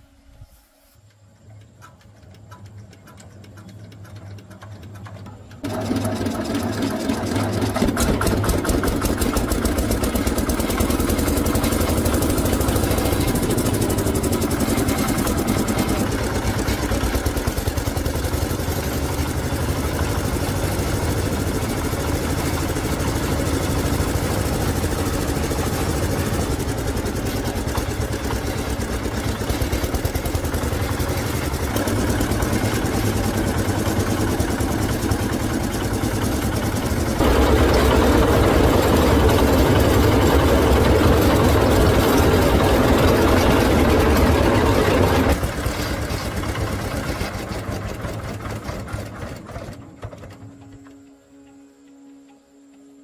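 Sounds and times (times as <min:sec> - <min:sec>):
small engine rattling: 0:01.0 - 0:51.9.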